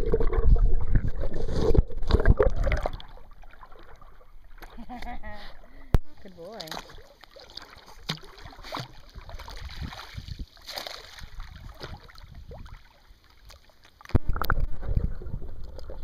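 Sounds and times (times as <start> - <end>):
underwater rumble and bubbling: 0.0 - 10.5, 11.2 - 13.2, 13.9 - 16.0.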